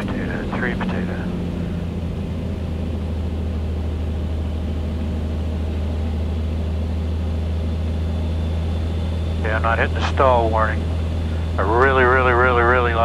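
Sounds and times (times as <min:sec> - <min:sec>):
aircraft engine and airflow drone: 0:00.0 - 0:13.0.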